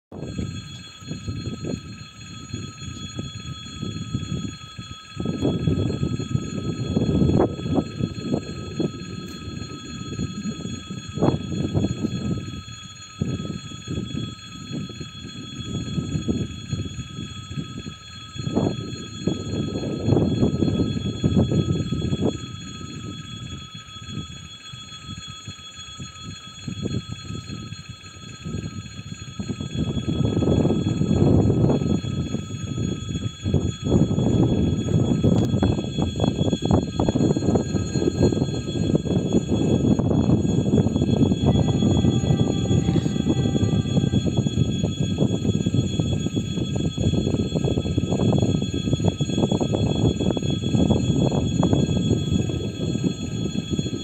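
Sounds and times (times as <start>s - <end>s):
wind gusting on microphone: 0.1s - 24.3s, 28.4s - 54.0s
faint high-pitched ringing: 0.1s - 54.0s.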